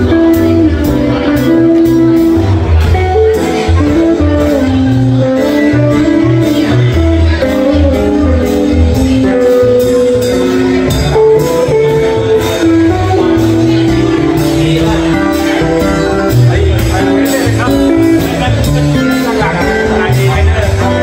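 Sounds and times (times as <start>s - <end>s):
guitars playing: 0.0s - 21.0s
person singing: 0.0s - 21.0s.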